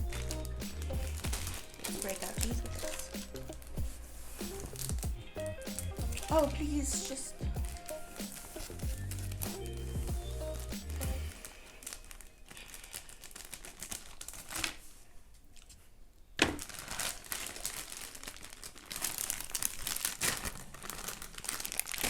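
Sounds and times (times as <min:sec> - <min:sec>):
plastic candy wrappers crinkling: 0:00.0 - 0:15.8, 0:16.4 - 0:22.0.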